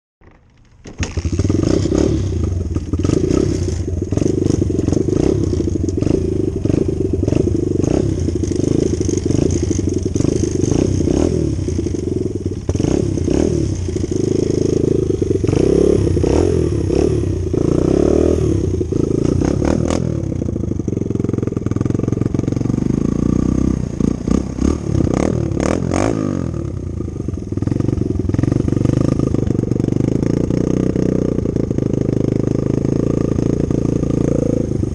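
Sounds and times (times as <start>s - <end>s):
dirt bike engine revving: 1.0s - 34.9s.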